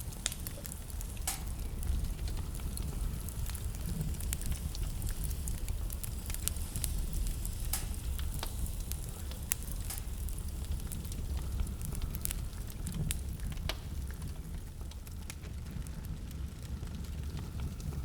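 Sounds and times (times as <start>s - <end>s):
low rumble of blizzard wind: 0.0s - 18.0s
wood fire crackling: 0.0s - 18.0s.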